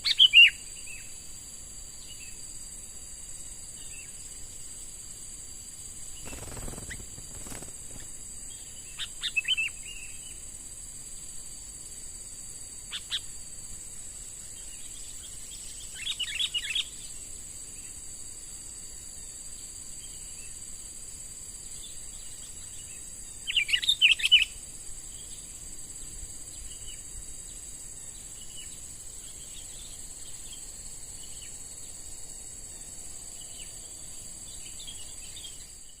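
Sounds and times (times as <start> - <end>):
steady high-pitched whine: 0.0 - 36.0.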